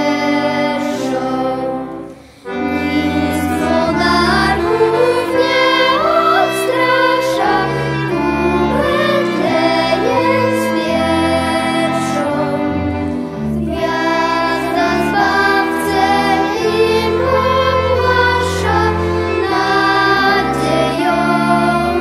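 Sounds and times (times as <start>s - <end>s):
accordion: 0.0s - 22.0s
cello: 0.0s - 22.0s
clarinet: 0.0s - 22.0s
girls choir singing: 0.0s - 22.0s
violin: 0.0s - 22.0s.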